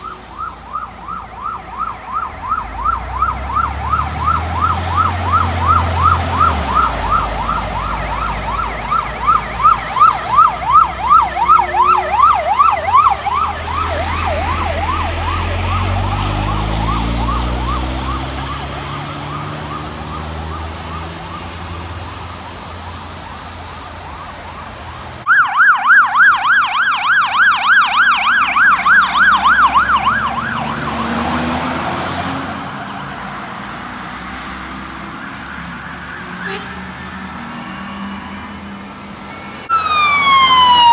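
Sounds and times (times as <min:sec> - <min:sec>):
vehicle engine: 0:00.0 - 0:23.5, 0:27.3 - 0:40.9
fire engine yelp siren: 0:00.0 - 0:40.9
siren yelping: 0:00.0 - 0:40.9.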